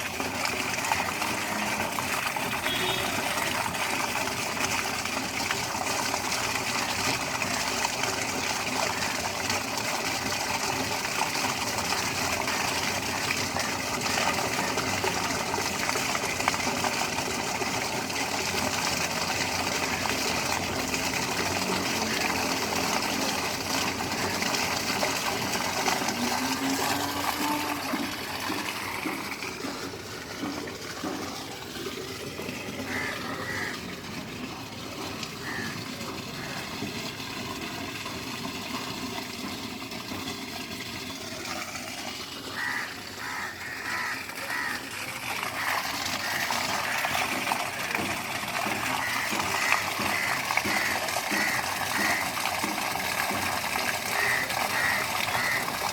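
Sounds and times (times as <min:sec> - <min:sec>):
water rushing through drain: 0:00.0 - 0:55.9.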